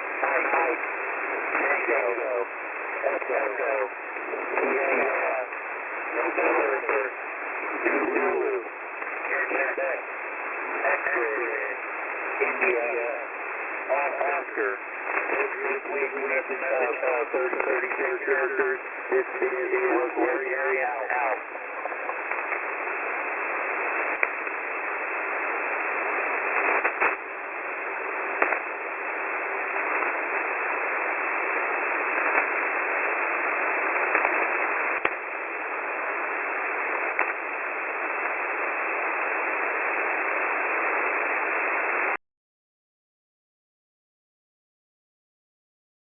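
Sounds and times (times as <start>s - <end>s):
crackles and clicks: 0.0s - 42.2s
radio static hiss: 0.0s - 42.2s.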